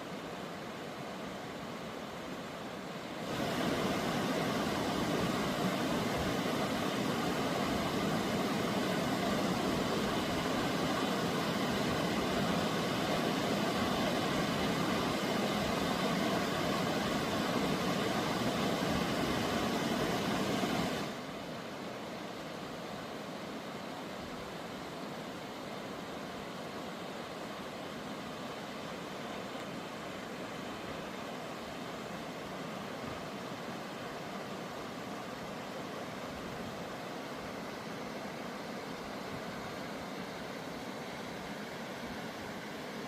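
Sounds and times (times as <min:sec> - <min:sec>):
fast-flowing creek water: 0:00.0 - 0:43.0.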